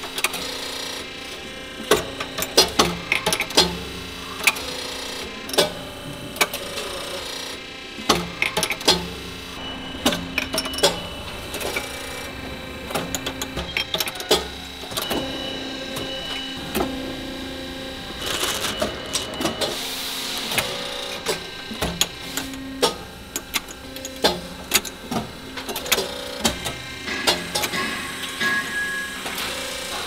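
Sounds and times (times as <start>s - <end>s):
low machine hum: 0.0s - 30.0s
sharp metal clicks and clanks: 1.8s - 29.6s.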